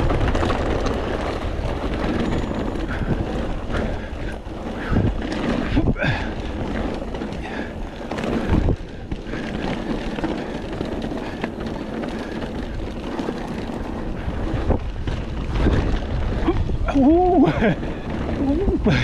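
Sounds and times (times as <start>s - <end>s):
bike rattling: 0.0s - 19.0s
tyres rushing on dirt and gravel: 0.0s - 19.0s
wind buffeting microphone: 0.0s - 19.0s.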